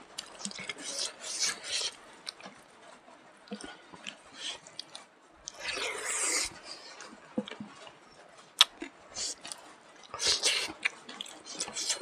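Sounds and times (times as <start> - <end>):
wet chewing and smacking: 0.2 - 2.6, 3.5 - 7.9, 8.6 - 12.0.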